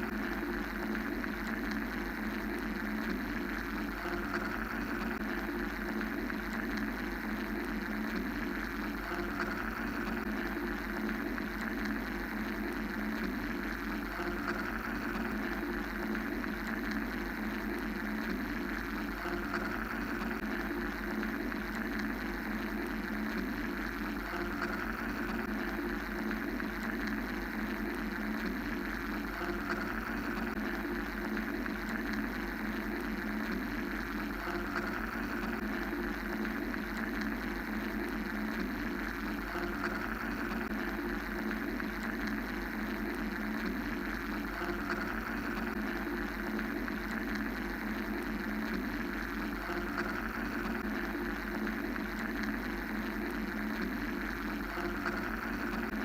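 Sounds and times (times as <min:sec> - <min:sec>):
mechanical white noise drone: 0:00.0 - 0:56.0.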